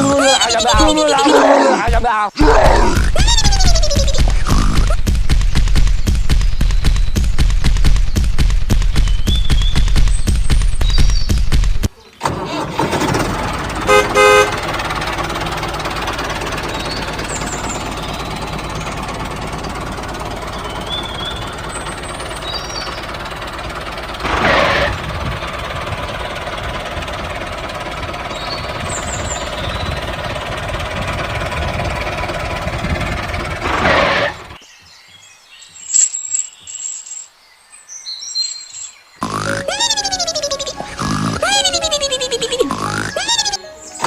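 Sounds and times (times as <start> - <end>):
small engine running: 3.1 - 34.6, 39.2 - 44.0.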